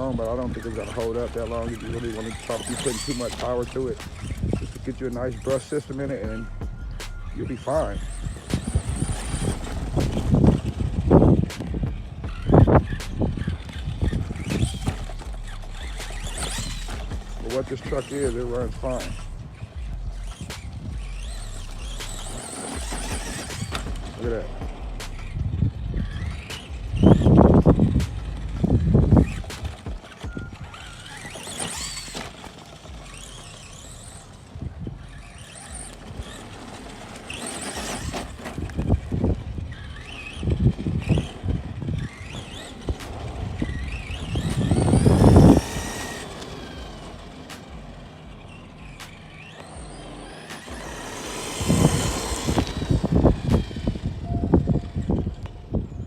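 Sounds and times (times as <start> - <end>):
toy truck electric motor whining: 0.0 - 56.0.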